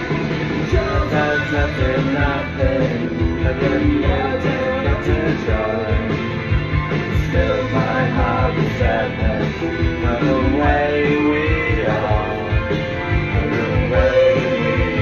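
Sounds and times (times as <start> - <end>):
rock song with singing: 0.0 - 15.0.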